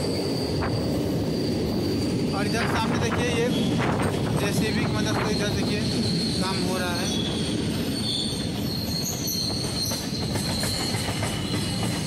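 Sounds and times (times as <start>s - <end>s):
high wheel squeal: 0.0s - 12.0s
train wheels rumbling on rails: 0.0s - 12.0s.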